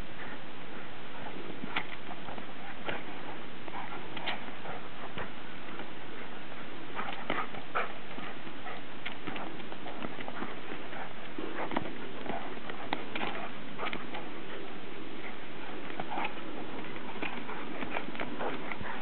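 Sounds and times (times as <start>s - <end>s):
dogs scuffling: 1.1s - 19.0s.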